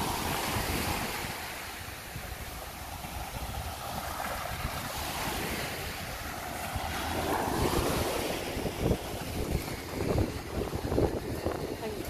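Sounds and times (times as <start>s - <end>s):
sea waves breaking on sand: 0.0s - 12.0s
wind buffeting microphone: 0.0s - 12.0s.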